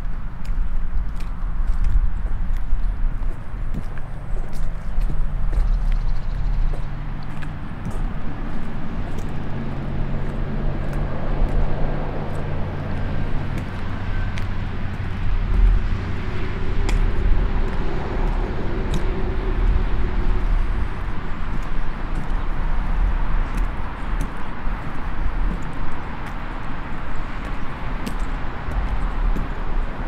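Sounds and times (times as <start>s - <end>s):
boot footsteps on wet asphalt: 0.0s - 30.0s
distant engine hum: 0.0s - 30.0s.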